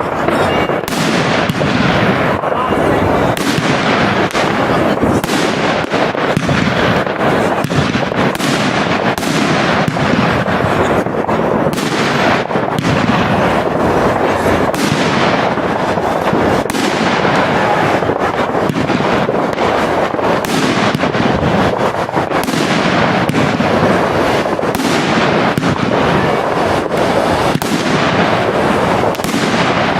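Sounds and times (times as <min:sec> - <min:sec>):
fireworks crackling hiss: 0:00.0 - 0:29.9.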